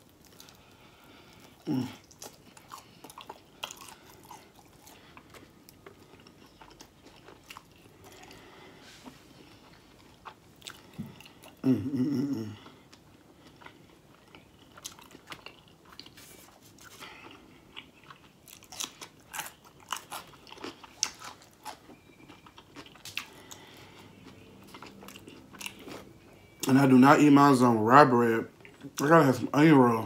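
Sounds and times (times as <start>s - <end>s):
person chewing a pickle: 0.0s - 27.0s.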